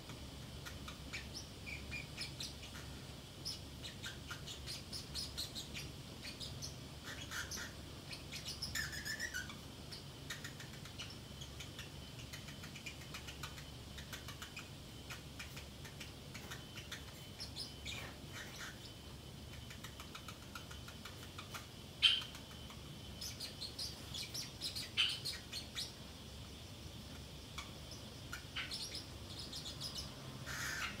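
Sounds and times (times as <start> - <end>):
parrotlet chirps and twitters: 0.4 - 31.0.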